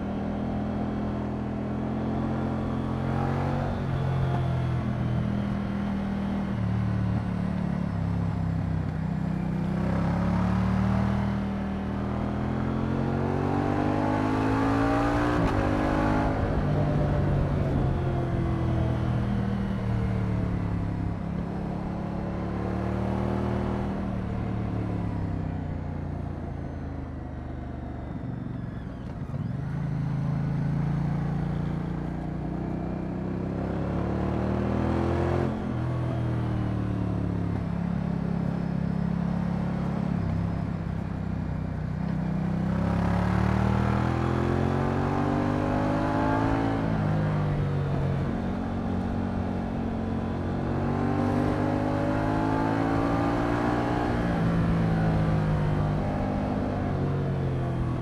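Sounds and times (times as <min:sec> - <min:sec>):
motorcycle engine revving: 0:01.8 - 0:25.5, 0:28.0 - 0:58.0.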